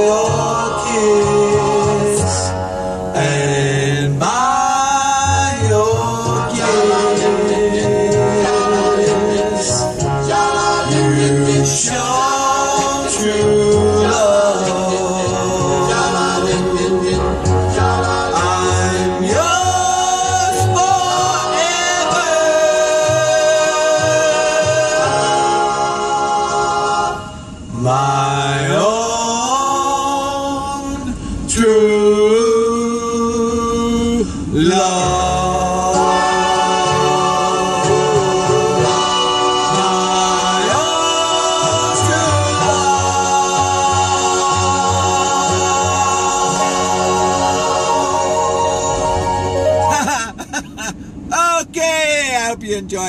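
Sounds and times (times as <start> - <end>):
man singing ballad: 0.0 - 2.6, 3.2 - 27.1, 27.8 - 49.2
musical accompaniment: 0.0 - 29.0, 34.8 - 50.4.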